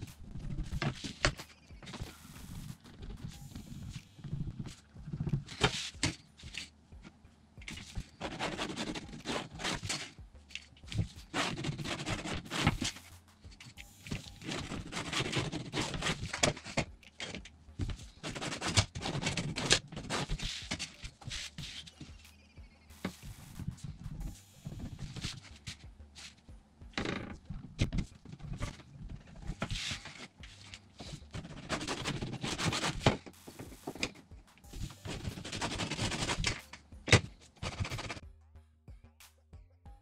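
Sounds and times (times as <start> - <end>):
pencil scratching on vinyl: 0.0 - 6.7, 7.6 - 38.2.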